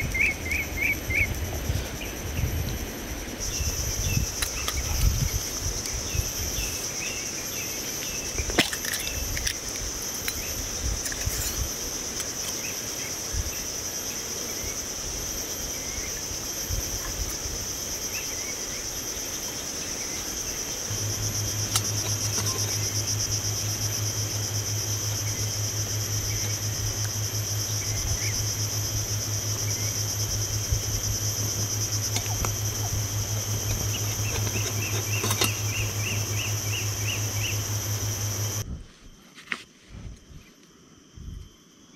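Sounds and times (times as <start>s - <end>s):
insects chorus: 0.0s - 41.9s
low steady hum: 0.0s - 41.9s.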